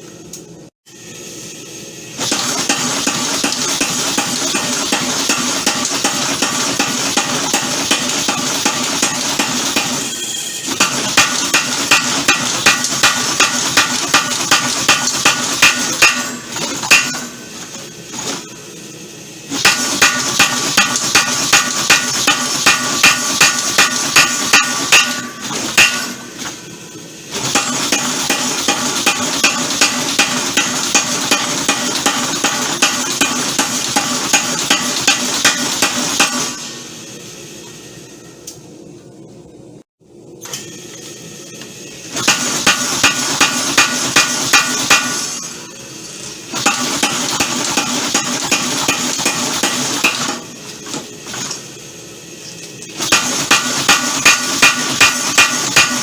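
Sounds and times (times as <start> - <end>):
steady mechanical noise: 0.0 - 56.0
power hammer striking hot steel: 2.2 - 18.6, 19.5 - 26.7, 27.3 - 36.9, 42.1 - 45.7, 46.5 - 51.6, 52.8 - 56.0.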